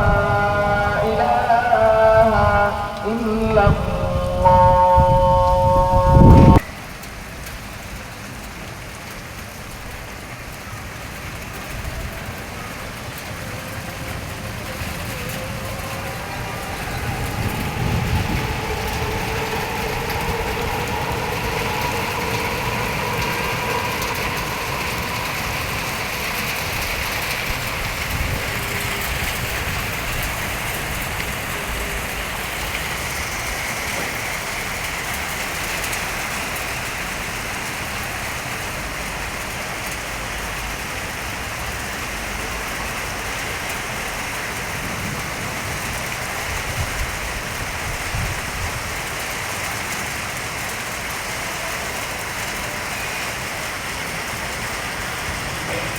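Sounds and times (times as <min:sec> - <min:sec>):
torrential rain pouring: 0:00.0 - 0:55.9.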